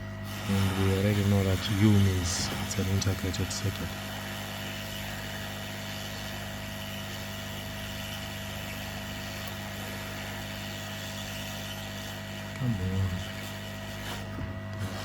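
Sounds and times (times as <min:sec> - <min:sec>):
electrical hum: 0:00.0 - 0:15.0
hot air station fan whooshing: 0:00.0 - 0:15.0.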